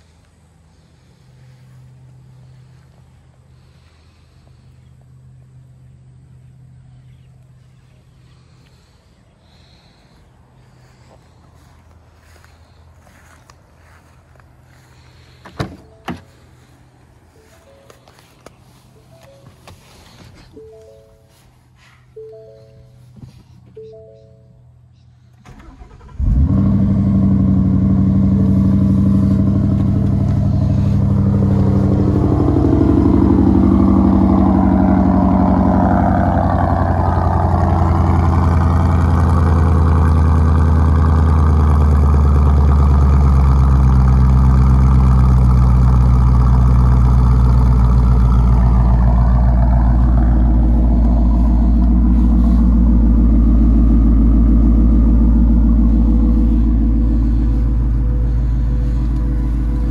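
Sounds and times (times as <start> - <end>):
car engine starting and idling: 0.0 - 59.9.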